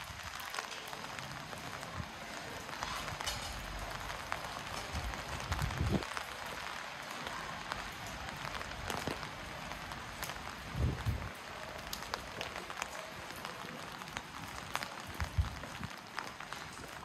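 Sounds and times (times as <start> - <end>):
footsteps on wet pavement: 0.0 - 17.0
rain pattering: 0.0 - 17.0.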